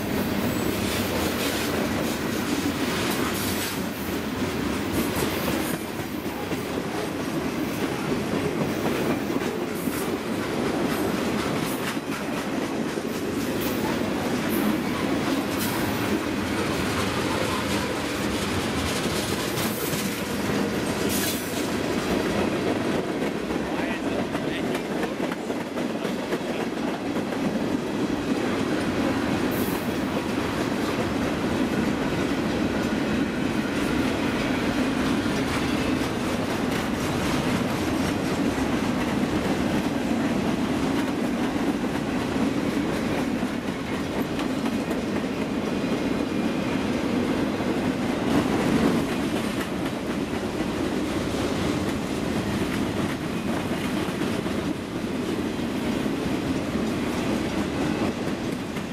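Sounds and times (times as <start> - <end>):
train rumbling past: 0.0 - 58.9.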